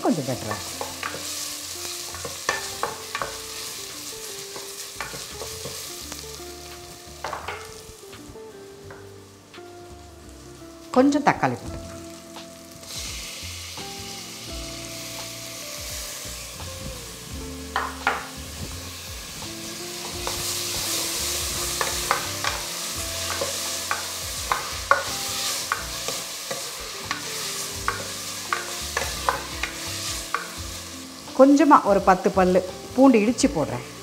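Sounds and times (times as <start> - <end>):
tomatoes sizzling in oil: 0.0 - 34.0.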